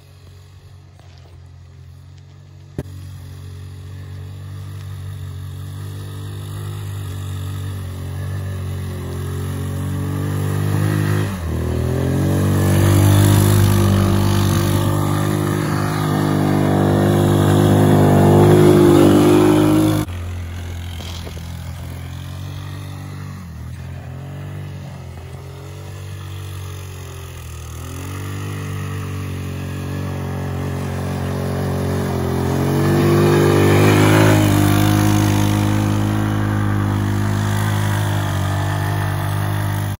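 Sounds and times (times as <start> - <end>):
atv engine revving: 0.0 - 40.0.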